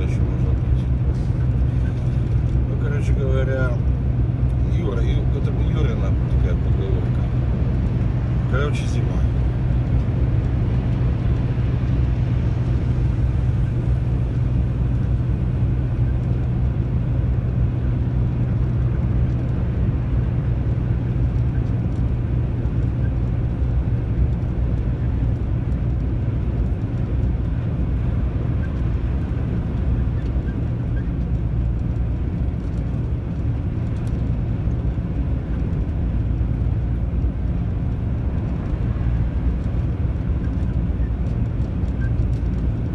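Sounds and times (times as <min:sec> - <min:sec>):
lorry diesel engine droning: 0:00.0 - 0:42.9
road and tyre noise: 0:00.0 - 0:42.9.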